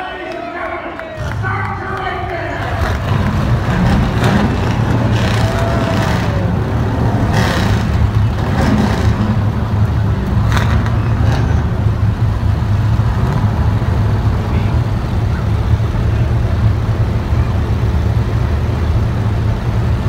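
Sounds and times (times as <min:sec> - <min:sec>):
truck engines idling: 0:00.0 - 0:20.0.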